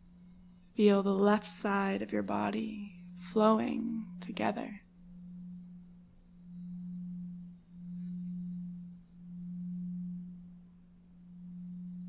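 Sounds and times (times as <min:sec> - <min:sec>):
pulsing low pure tone hum: 0:00.0 - 0:12.0.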